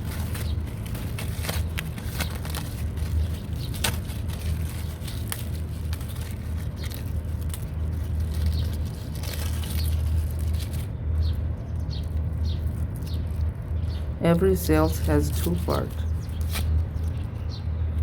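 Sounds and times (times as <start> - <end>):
foil crinkling and crackling: 0.0 - 17.4
steady low hum: 0.0 - 18.0.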